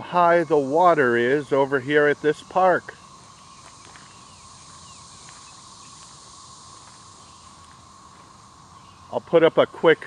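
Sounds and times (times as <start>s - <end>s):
even hiss: 0.0s - 10.0s
faint chirps: 0.0s - 10.0s
insect drone: 0.0s - 10.0s.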